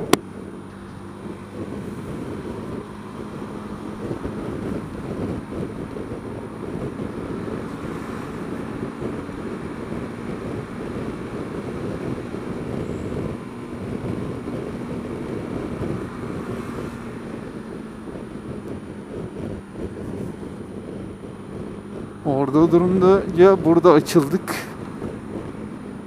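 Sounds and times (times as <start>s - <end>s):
scooter engine running: 0.0s - 26.0s
wind rushing over microphone: 0.0s - 26.0s.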